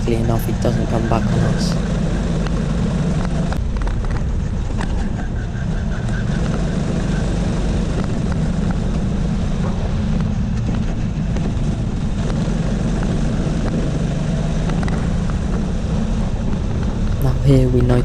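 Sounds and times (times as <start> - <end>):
go-kart engine racing: 0.0 - 18.0.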